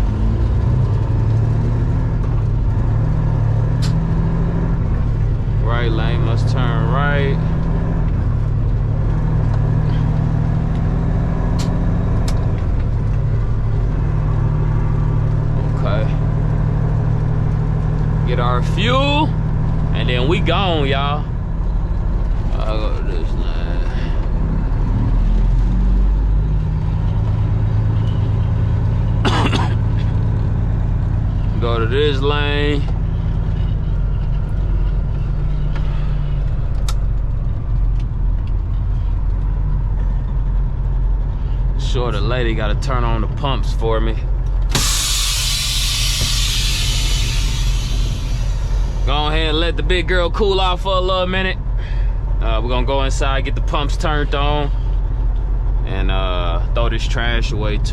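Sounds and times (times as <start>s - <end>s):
diesel truck engine droning: 0.0s - 57.9s.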